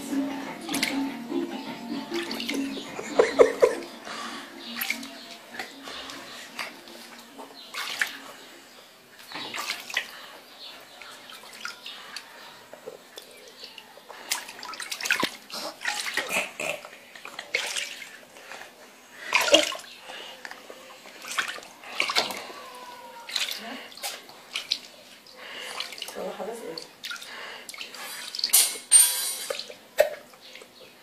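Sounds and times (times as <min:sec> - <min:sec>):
water splashing in a tub: 0:00.7 - 0:01.0, 0:02.2 - 0:03.8, 0:04.6 - 0:20.1, 0:20.9 - 0:30.8.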